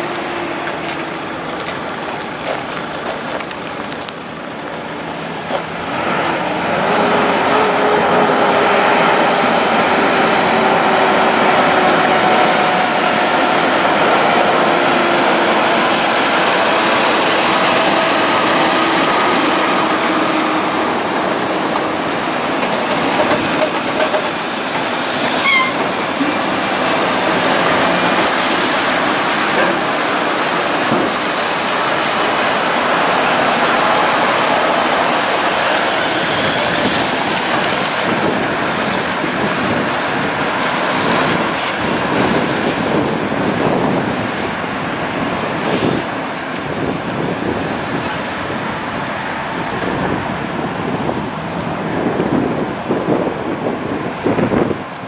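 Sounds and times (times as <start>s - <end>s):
heavy diesel engines passing: 0.0s - 55.0s.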